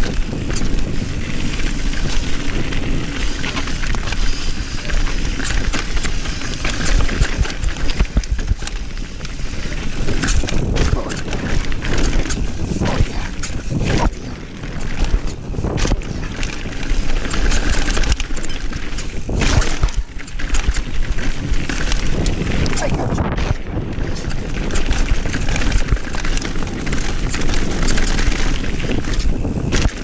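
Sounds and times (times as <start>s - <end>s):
bike rattling and knocking: 0.0s - 30.0s
tyres on dirt and stones: 0.0s - 30.0s
wind rumbling on microphone: 0.0s - 30.0s.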